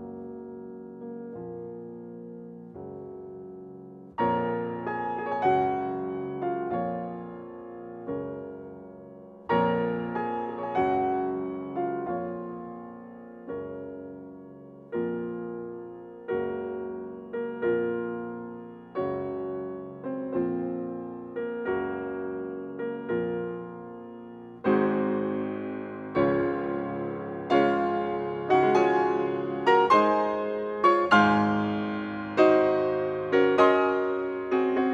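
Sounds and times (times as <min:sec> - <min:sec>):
slow piano chords: 0:00.0 - 0:34.9.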